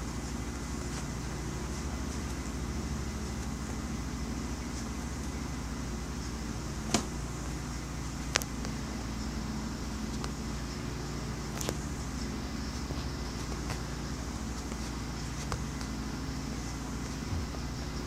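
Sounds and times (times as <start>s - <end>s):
low motor rumble: 0.0s - 18.0s.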